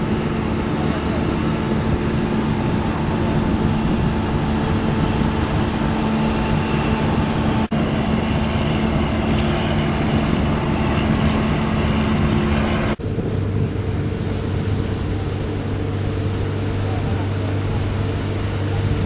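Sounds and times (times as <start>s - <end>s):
boat engine running: 0.0s - 19.0s
water noise: 0.0s - 19.0s
wind: 0.0s - 19.0s.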